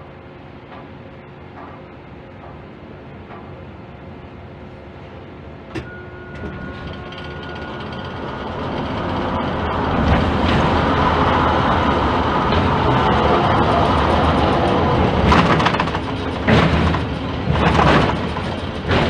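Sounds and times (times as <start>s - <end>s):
crane machinery rumbling: 0.0s - 19.0s.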